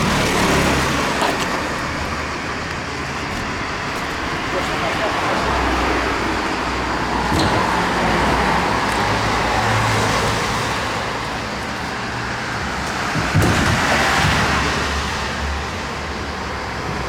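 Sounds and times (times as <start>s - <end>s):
motor traffic hum: 0.0s - 17.0s.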